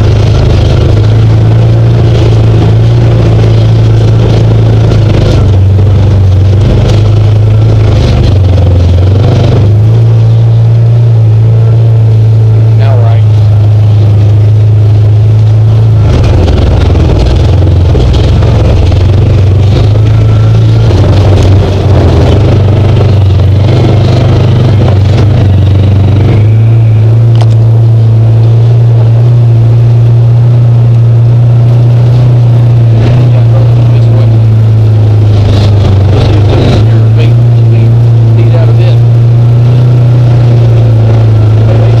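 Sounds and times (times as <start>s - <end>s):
utility vehicle engine running: 0.0s - 42.0s.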